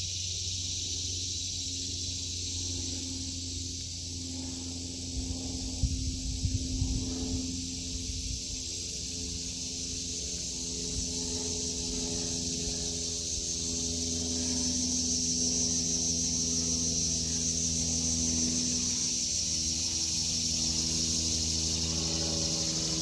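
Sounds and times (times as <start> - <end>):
cicadas droning: 0.0 - 23.0
low steady hum: 0.0 - 23.0.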